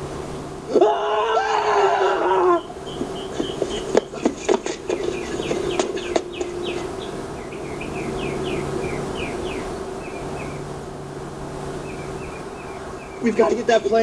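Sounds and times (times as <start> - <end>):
birds chirping: 0.0 - 14.0
faint steady hum: 0.0 - 14.0.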